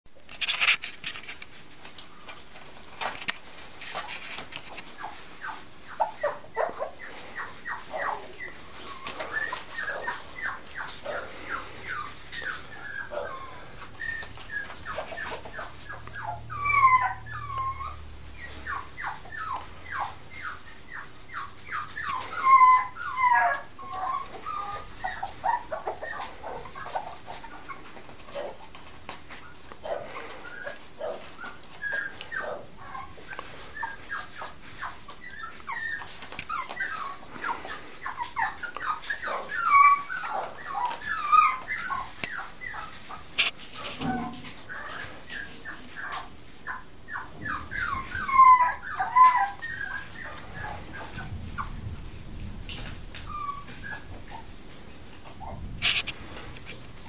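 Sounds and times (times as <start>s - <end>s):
puppy whining and yipping: 0.4s - 57.0s
puppy yelps: 3.9s - 52.0s, 52.7s - 56.1s.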